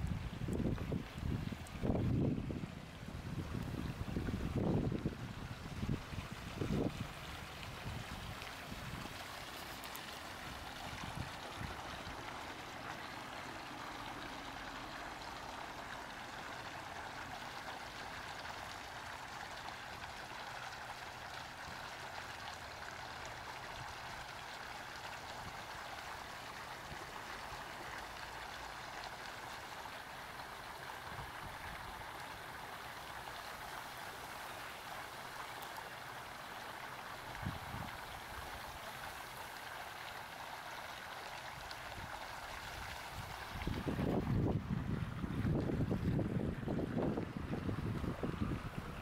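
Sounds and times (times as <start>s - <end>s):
running water rushing: 0.0s - 49.0s.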